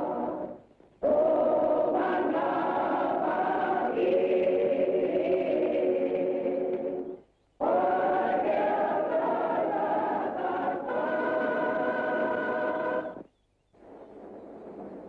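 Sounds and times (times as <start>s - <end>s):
choir singing long notes: 0.0s - 13.2s.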